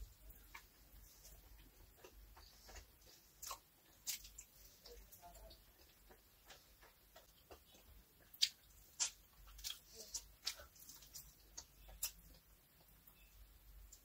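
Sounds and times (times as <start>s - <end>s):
mouth clicks and lip smacks chewing: 0.4s - 13.0s.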